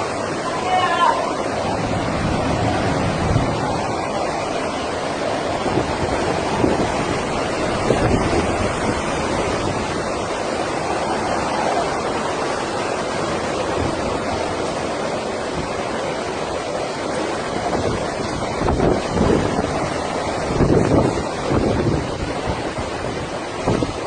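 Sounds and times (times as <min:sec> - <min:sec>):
storm water rushing: 0:00.0 - 0:24.0
wind buffeting microphone: 0:00.0 - 0:24.0.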